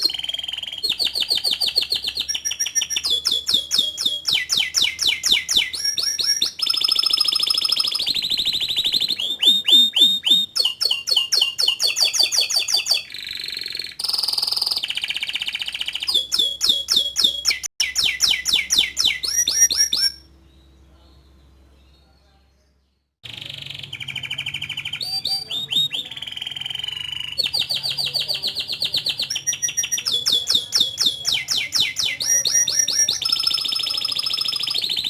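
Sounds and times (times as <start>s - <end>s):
canary singing trills: 0.0s - 35.0s.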